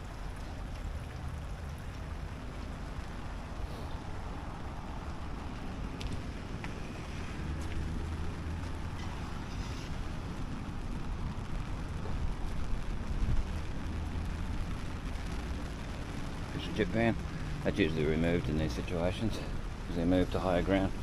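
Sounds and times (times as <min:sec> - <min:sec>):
rain hissing: 0:00.0 - 0:21.0
wind rumbling on microphone: 0:00.0 - 0:21.0.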